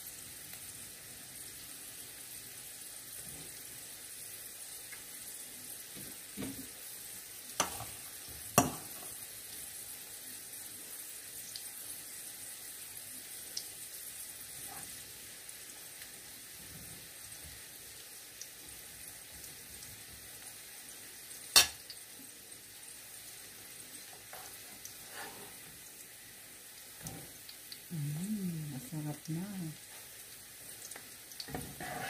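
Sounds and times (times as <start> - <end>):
batter sizzling in hot oil: 0.0 - 32.0.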